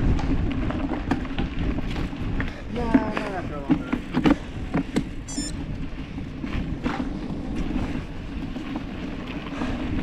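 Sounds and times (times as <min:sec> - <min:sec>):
bike tyres rumbling on dirt: 0:00.0 - 0:10.0
wind buffeting microphone: 0:00.0 - 0:10.0.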